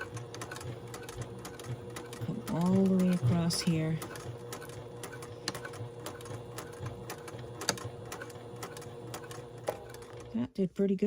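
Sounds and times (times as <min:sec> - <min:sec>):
sewing machine stitching: 0:00.0 - 0:10.4.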